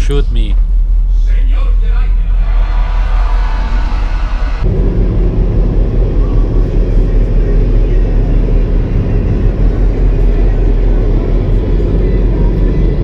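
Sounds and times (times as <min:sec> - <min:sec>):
ferry engine rumble: 0:00.0 - 0:13.0.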